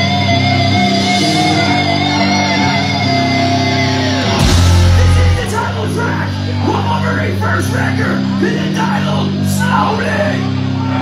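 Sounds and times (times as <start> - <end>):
distorted electric guitars: 0.0 - 11.0.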